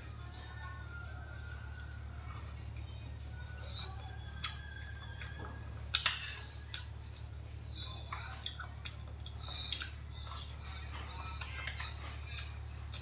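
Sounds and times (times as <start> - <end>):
chewing: 0.0 - 13.0
steady low hum: 0.0 - 13.0.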